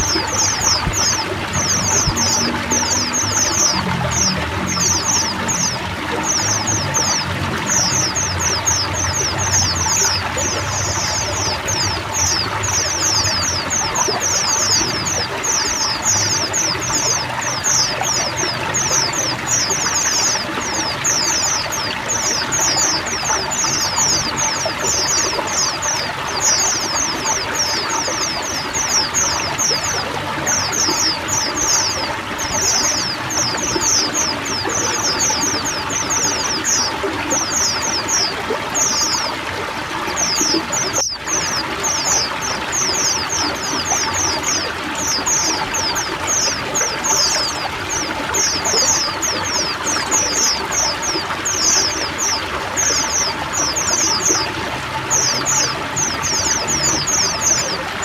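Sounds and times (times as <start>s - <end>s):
birds chattering: 0.0s - 58.0s
running water: 0.0s - 58.0s.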